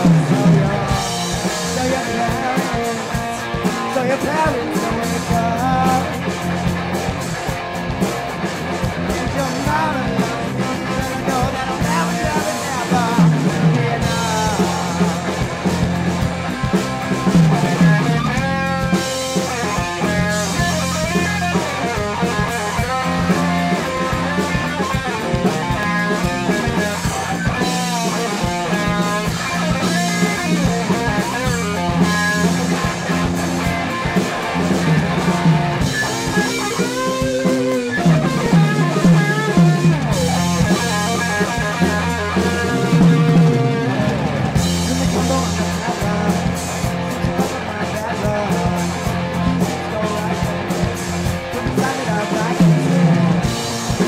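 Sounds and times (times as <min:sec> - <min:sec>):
bending electric guitar lead: 0:00.0 - 0:54.0
rock band playing: 0:00.0 - 0:54.0.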